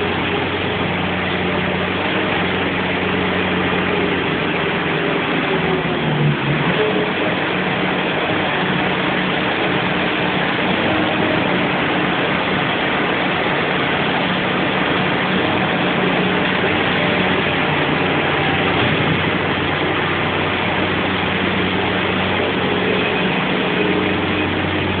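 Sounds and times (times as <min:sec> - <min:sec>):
loader engine running steadily: 0:00.0 - 0:25.0.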